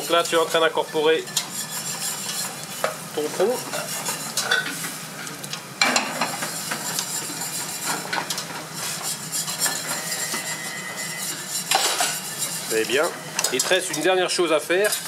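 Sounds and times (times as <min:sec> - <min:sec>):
spatula scraping metal pot: 0:00.0 - 0:05.0, 0:05.9 - 0:14.2.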